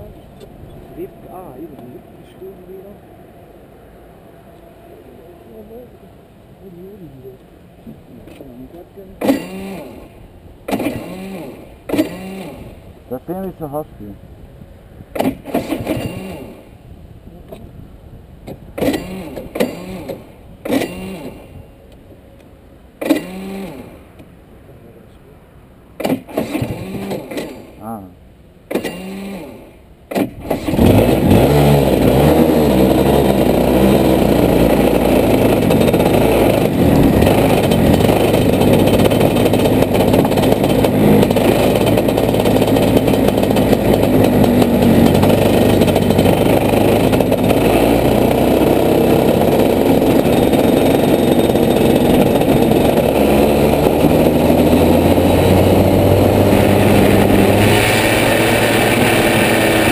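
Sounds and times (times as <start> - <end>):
kart engine starting and running: 0.0 - 3.0, 5.0 - 13.8, 15.0 - 17.7, 18.3 - 24.3, 26.0 - 59.9.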